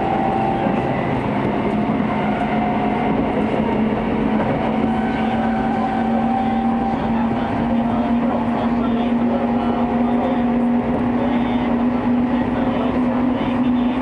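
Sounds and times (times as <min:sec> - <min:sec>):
low motor hum: 0:00.0 - 0:14.0
train wheels rumbling on rail: 0:00.0 - 0:14.0.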